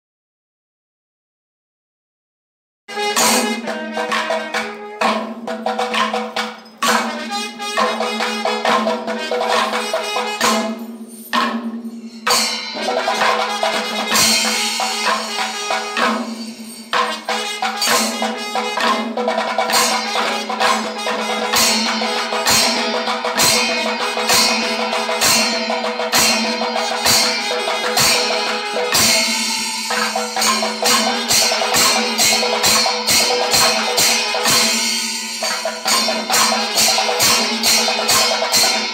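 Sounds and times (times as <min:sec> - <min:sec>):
drums playing densely: 0:02.9 - 0:38.9
hand cymbals: 0:02.9 - 0:38.9.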